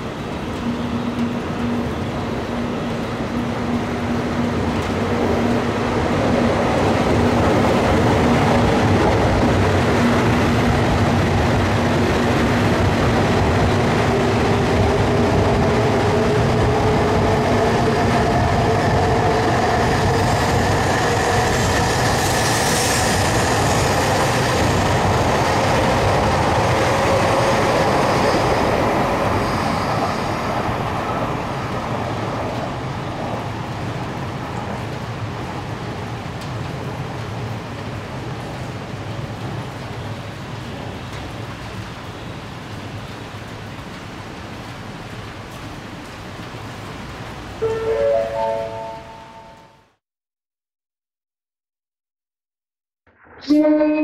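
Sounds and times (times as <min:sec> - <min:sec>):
train wheels rumbling on rail: 0:00.0 - 0:47.7.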